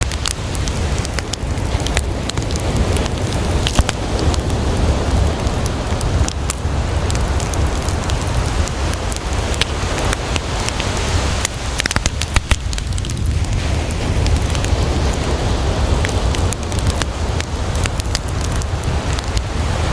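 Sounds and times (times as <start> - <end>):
campfire crackling and popping: 0.0 - 19.9
sea waves: 0.0 - 19.9.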